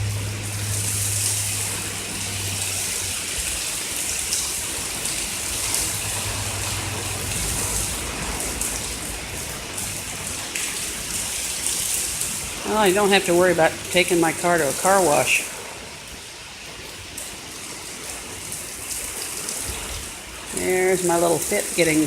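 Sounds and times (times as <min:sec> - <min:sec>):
heavy rain pouring: 0:00.0 - 0:22.0
water sheeting off a roof: 0:00.0 - 0:22.0.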